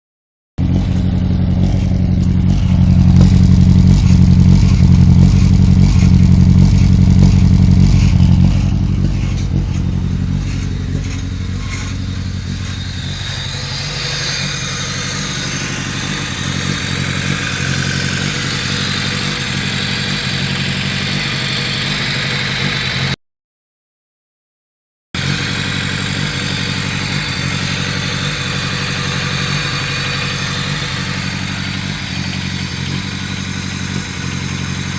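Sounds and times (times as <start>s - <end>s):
car engine idling: 0.6s - 23.2s, 25.2s - 34.9s.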